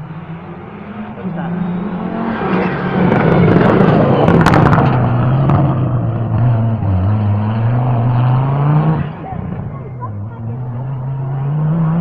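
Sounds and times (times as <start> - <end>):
rally car engine passing: 0.0 - 12.0.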